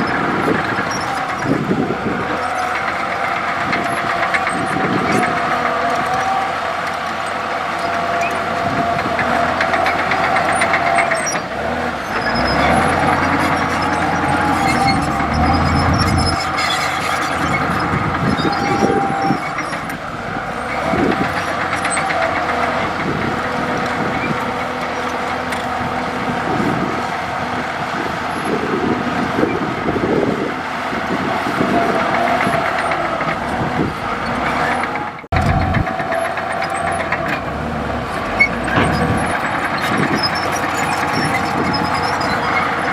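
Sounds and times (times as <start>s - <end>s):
bulldozer diesel engine whining: 0.0s - 42.9s.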